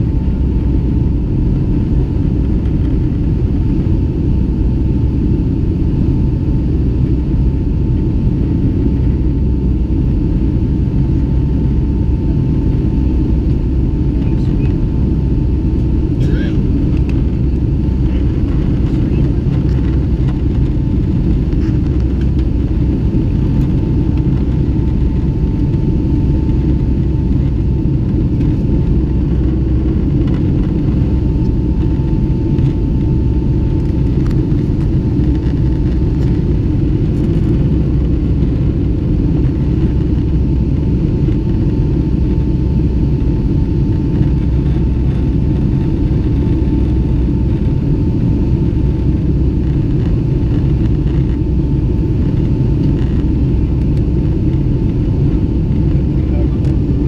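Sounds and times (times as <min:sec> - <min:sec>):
faint steady whine: 0:00.0 - 0:57.0
jet engines rumbling: 0:00.0 - 0:57.0.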